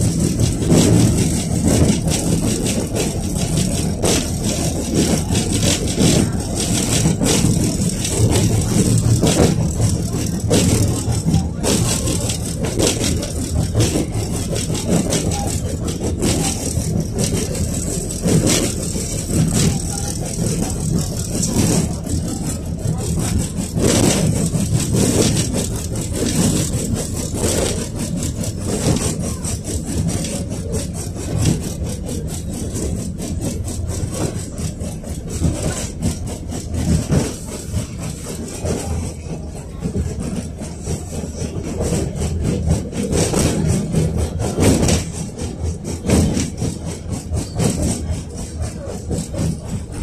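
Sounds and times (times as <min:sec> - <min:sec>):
car body rattling: 0:00.0 - 0:50.0
sharp clicks and knocks: 0:00.0 - 0:50.0
tram wheels on rails: 0:00.0 - 0:50.0.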